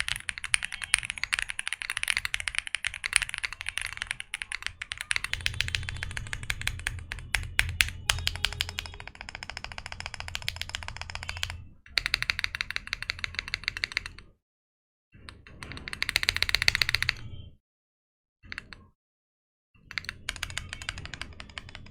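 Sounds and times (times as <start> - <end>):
mechanical keyboard typing: 0.0 - 14.3, 15.3 - 17.4, 18.4 - 18.9, 19.9 - 21.9.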